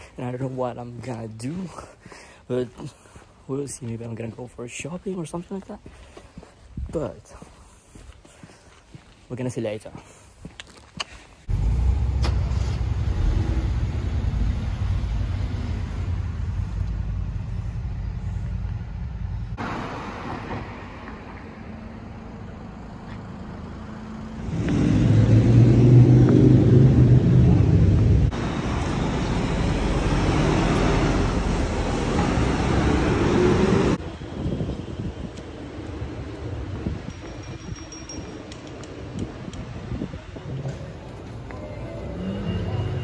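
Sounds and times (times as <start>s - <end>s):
cars passing on city street: 0.0s - 43.0s.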